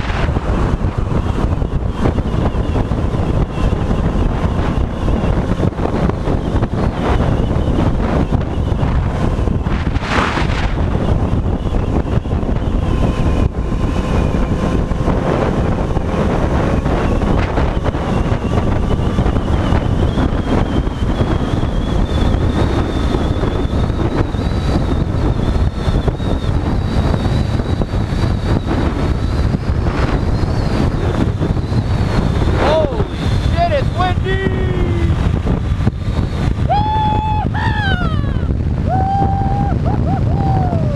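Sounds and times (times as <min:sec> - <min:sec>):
motorcycle running: 0:00.0 - 0:40.9
wind rushing over microphone: 0:00.0 - 0:40.9.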